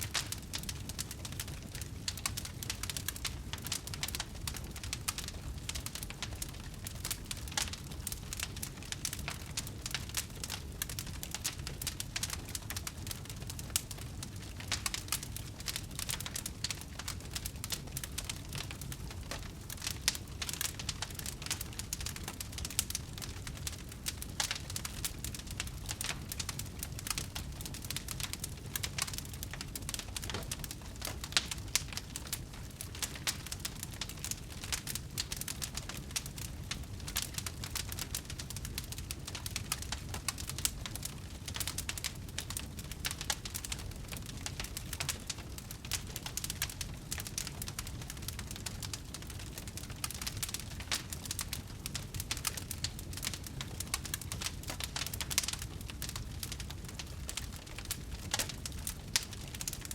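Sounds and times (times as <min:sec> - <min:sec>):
low rumble of flame: 0:00.0 - 0:59.9
wood fire crackling: 0:00.0 - 0:59.9.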